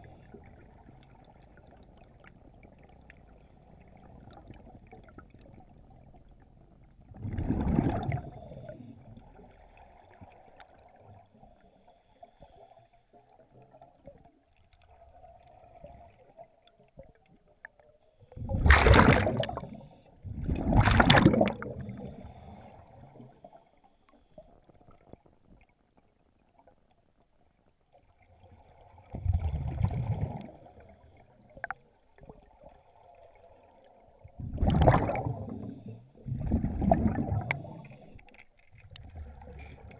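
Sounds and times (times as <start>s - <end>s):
underwater exhaled bubbles: 0.0s - 11.8s, 12.4s - 23.7s, 28.1s - 38.3s
faint low water wash: 0.0s - 38.4s.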